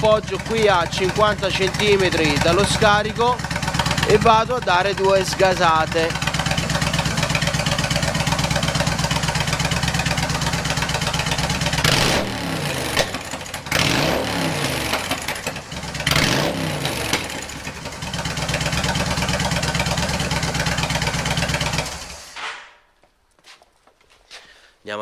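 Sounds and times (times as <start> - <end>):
motorcycle engine idling and revving: 0.0 - 22.3
exhaust popping: 0.0 - 23.2.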